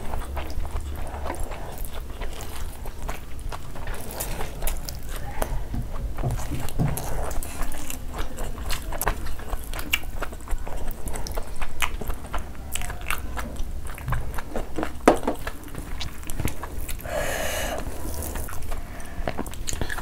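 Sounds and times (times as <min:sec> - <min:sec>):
people chewing with mouth smacks: 0:00.0 - 0:20.0.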